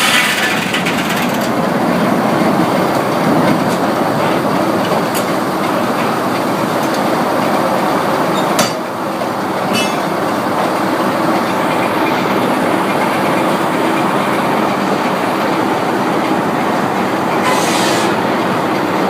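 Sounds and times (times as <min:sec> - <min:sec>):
sawmill machinery clattering: 0:00.0 - 0:19.0.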